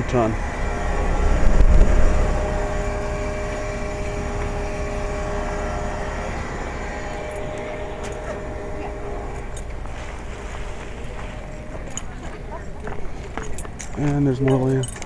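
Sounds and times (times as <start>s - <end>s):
condenser fan whoosh: 0.0s - 13.2s
compressor hum: 0.0s - 15.0s.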